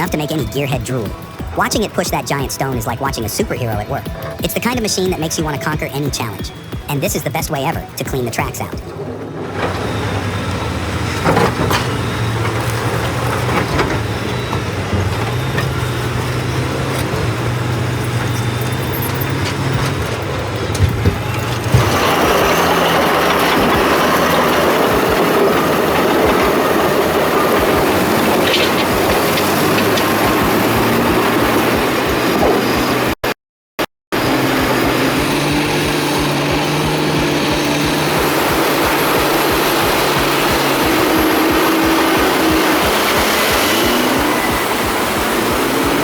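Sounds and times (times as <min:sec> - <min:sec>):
diesel machinery engine drone: 0:00.0 - 0:33.2, 0:34.2 - 0:46.0.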